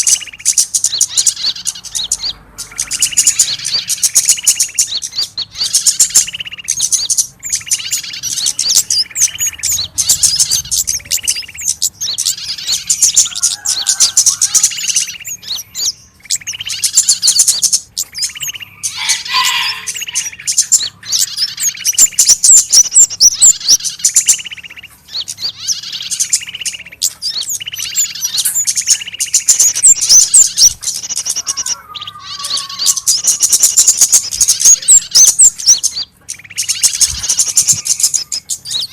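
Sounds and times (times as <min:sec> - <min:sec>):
songbirds chirping and scolding: 0:00.0 - 0:38.9.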